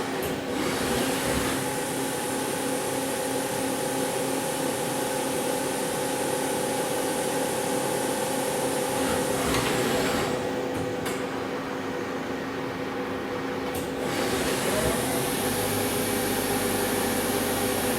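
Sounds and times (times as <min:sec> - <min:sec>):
lathe machine hum and hiss: 0:00.0 - 0:17.9.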